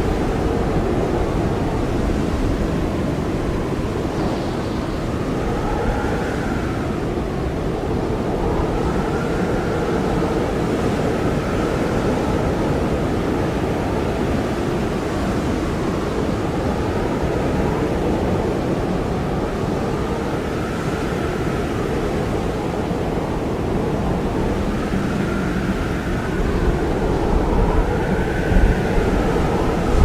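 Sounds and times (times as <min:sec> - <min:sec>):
blizzard wind blowing: 0:00.0 - 0:30.0.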